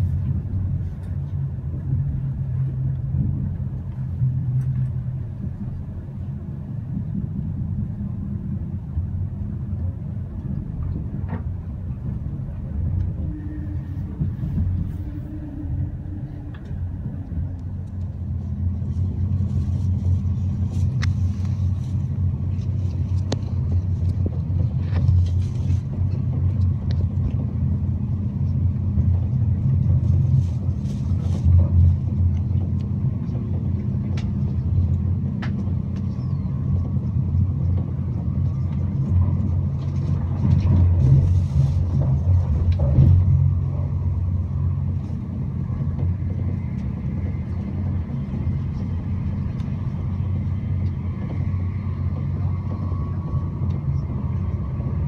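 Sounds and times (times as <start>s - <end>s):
train rumble inside cabin: 0.0s - 55.0s.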